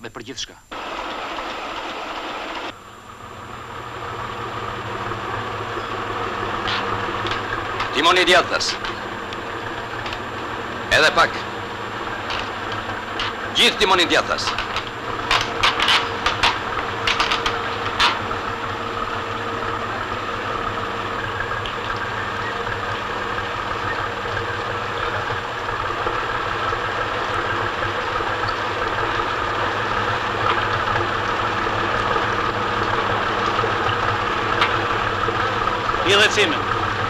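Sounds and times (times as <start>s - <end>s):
boat engine running: 0.7s - 37.0s.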